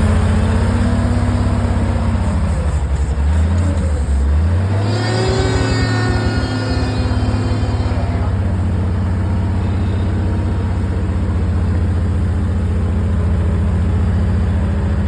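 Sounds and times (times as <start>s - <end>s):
heavy equipment engine running: 0.0s - 15.0s.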